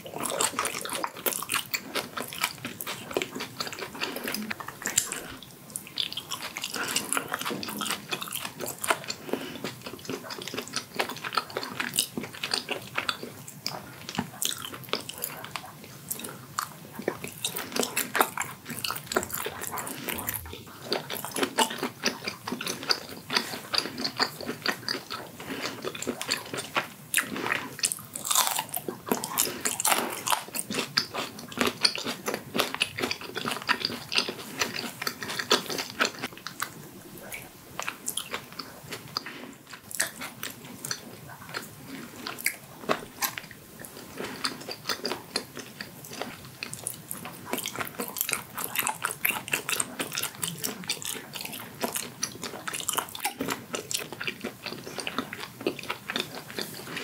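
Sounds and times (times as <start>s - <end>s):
wet chewing and crunching: 0.0s - 57.0s.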